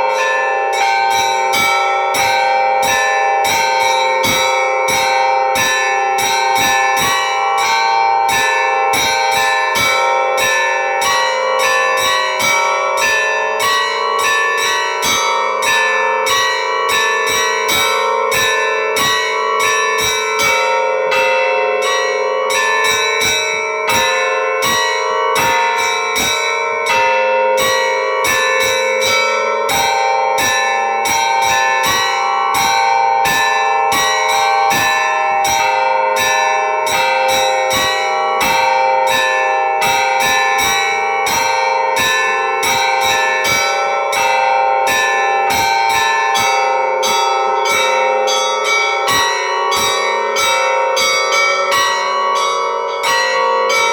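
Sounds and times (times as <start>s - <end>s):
large bells ringing: 0.0s - 53.9s
small church bells struck rapidly: 0.0s - 53.9s.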